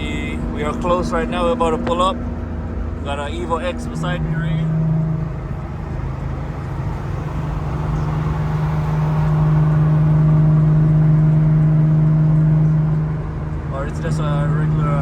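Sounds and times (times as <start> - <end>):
car engine and exhaust drone: 0.0 - 15.0.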